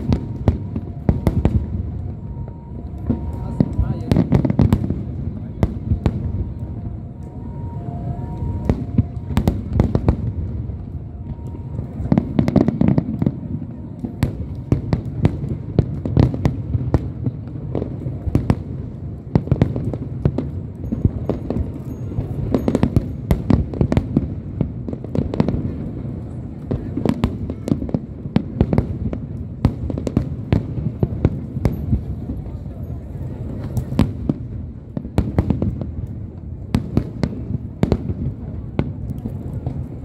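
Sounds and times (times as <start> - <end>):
fireworks sharp bangs: 0.0 - 40.0
rumble of fireworks booms: 0.0 - 40.0.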